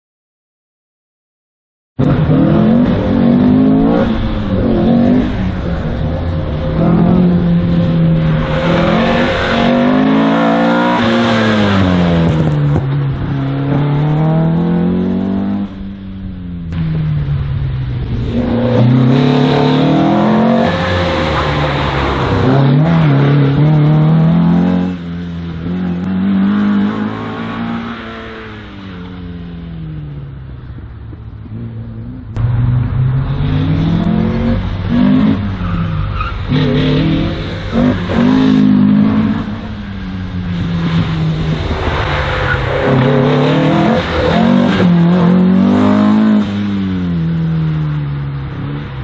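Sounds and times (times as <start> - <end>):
race car engine revving: 2.0 - 30.4, 31.2 - 49.0.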